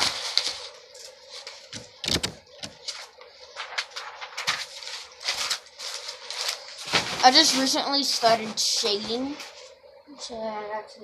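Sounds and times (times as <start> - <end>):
paper sheets rustling: 0.0 - 9.7.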